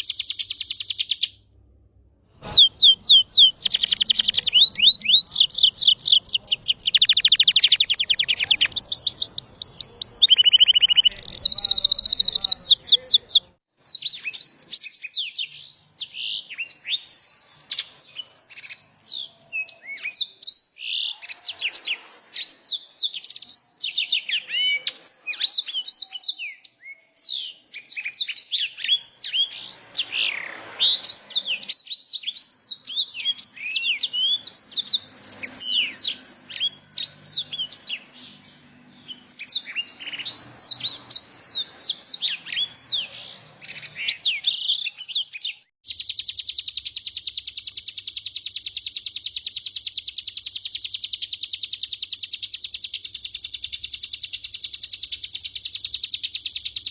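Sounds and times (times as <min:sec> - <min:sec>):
songbird singing trills: 0:00.0 - 0:01.4, 0:02.4 - 0:56.9.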